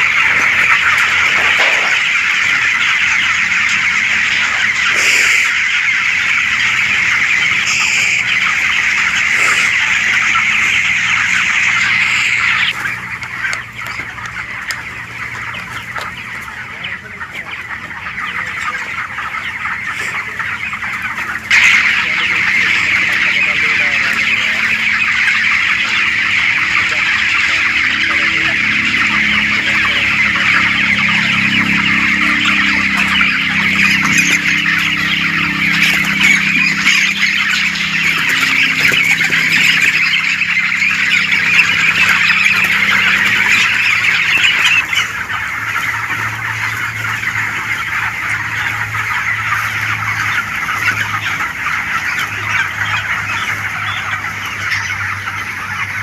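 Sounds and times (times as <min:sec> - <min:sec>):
chickens chirping and clucking: 0:00.0 - 0:56.0.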